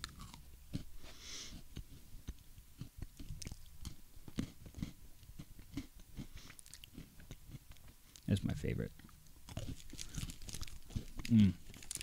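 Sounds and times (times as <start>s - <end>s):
person chewing crunchy biscuits: 0.0s - 8.4s, 9.0s - 12.0s.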